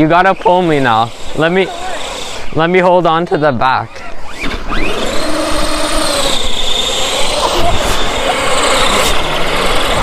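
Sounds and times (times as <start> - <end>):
electric motor whining: 0.0 - 2.8, 3.9 - 10.0.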